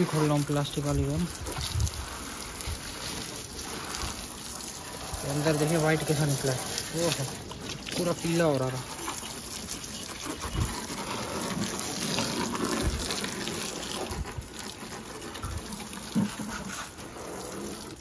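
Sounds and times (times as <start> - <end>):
hose water splashing on engine: 0.0 - 18.0.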